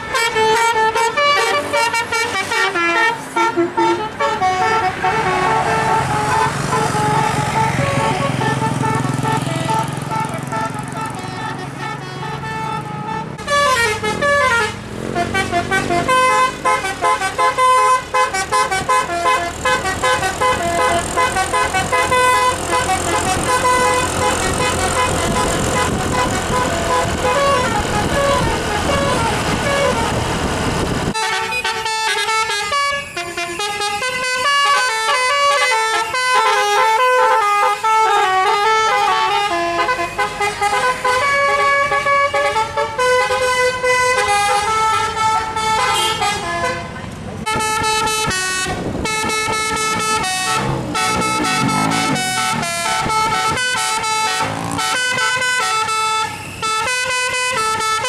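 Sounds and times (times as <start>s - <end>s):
musical air horn melody: 0.0s - 30.3s, 31.1s - 58.0s
bus engine rumble: 0.0s - 58.0s
traffic: 0.0s - 58.0s.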